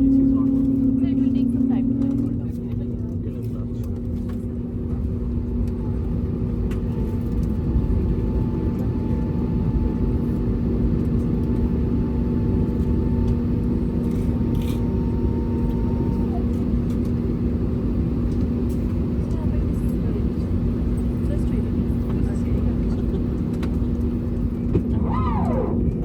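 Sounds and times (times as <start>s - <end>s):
aircraft cabin rumble and hum: 0.0s - 26.0s.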